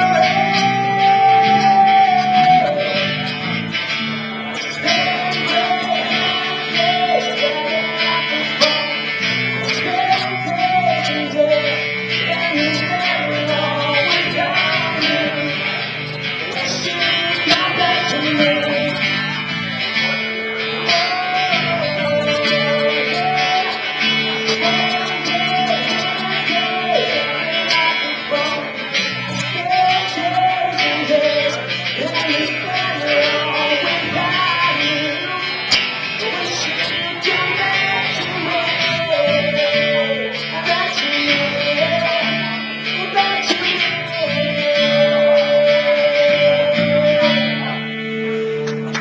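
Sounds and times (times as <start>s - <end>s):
guitar band music: 0.0s - 49.0s.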